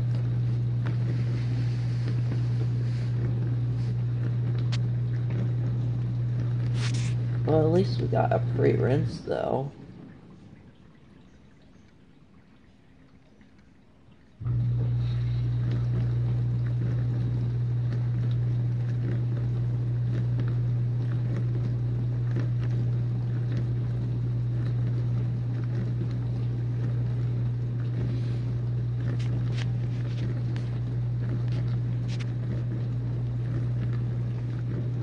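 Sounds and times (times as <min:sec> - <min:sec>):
dishwasher pump humming: 0:00.0 - 0:35.0.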